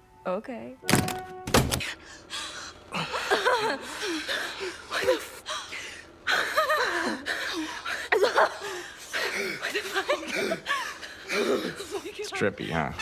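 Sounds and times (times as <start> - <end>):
people gasping and giggling: 1.8 - 13.0.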